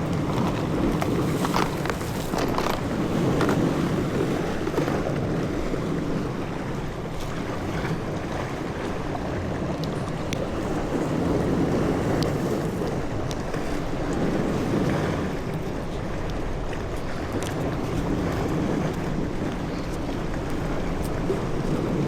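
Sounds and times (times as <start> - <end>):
sea water washing around boat: 0.0 - 22.0
wind noise on microphone: 0.0 - 22.0.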